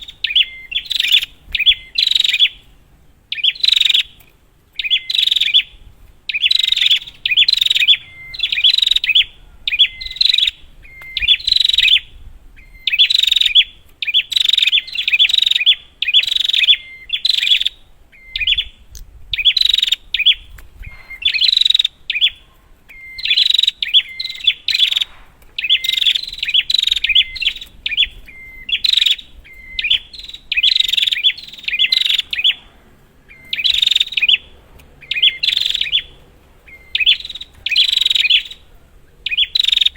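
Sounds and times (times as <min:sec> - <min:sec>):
bird sharp chirps: 0:00.0 - 0:39.9.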